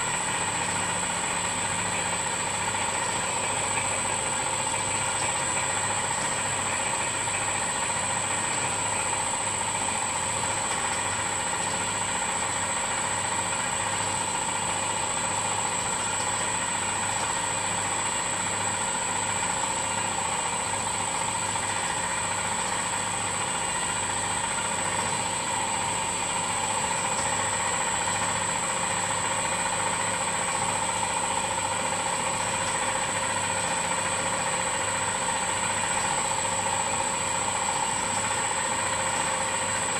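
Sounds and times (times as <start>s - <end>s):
honey grinder humming: 0.0s - 39.9s.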